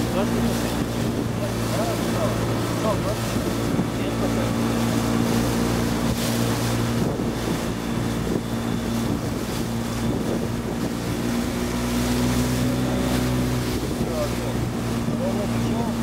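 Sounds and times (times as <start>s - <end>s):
boat engine running: 0.0s - 16.0s
wind on microphone: 0.0s - 16.0s.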